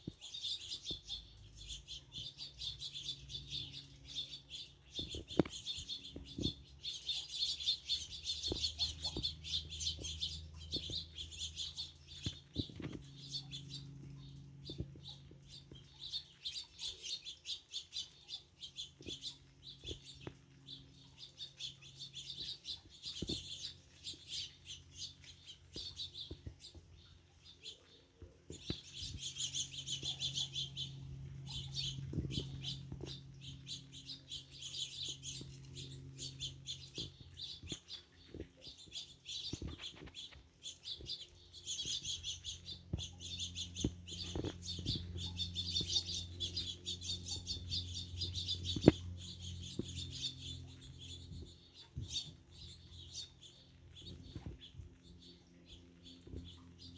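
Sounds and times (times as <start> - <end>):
faint low hum: 0.0 - 56.9
finches chirping and twittering: 0.0 - 56.9.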